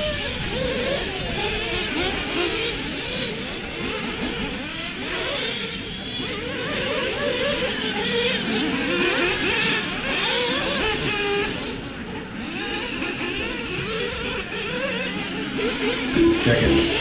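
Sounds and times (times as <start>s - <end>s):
rc buggy motors revving: 0.0s - 16.2s.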